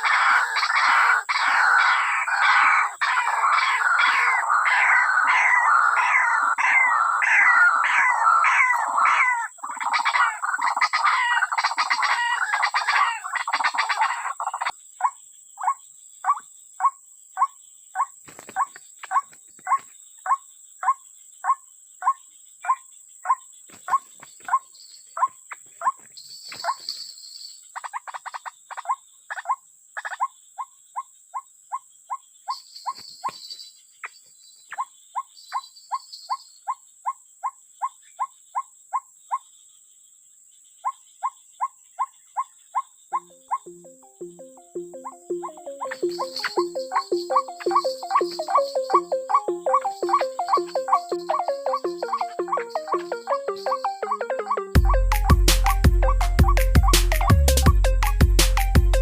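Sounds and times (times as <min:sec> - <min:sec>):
chorus of chattering animal calls: 0:00.0 - 0:27.0, 0:27.8 - 0:33.5, 0:40.8 - 0:57.4
high-pitched insect-like hum: 0:00.0 - 0:57.4.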